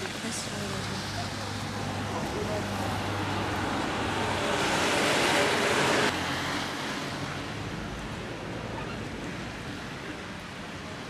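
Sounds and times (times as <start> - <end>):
traffic on snowy road: 0.0 - 11.0.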